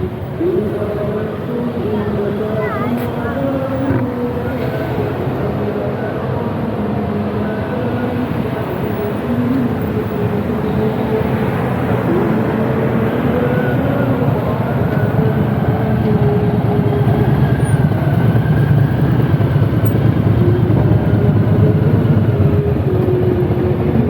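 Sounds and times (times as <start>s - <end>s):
car engines rumbling: 0.0s - 24.0s.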